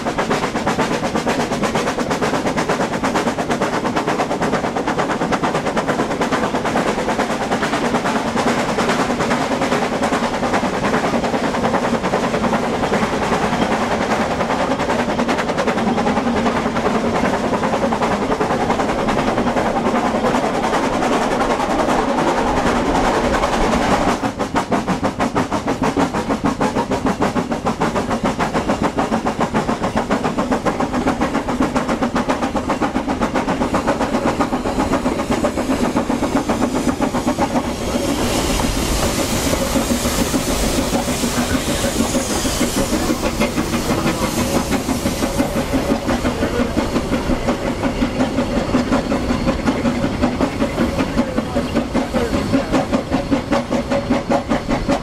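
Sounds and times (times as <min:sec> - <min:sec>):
high steam hiss: 0:00.0 - 0:55.0
steam locomotive chuffing: 0:00.0 - 0:55.0
wheel clatter on rails: 0:00.0 - 0:55.0.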